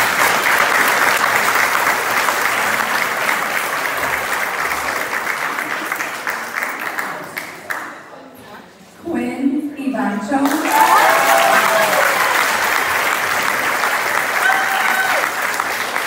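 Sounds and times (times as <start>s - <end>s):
audience applauding: 0.0s - 7.9s, 10.4s - 16.0s.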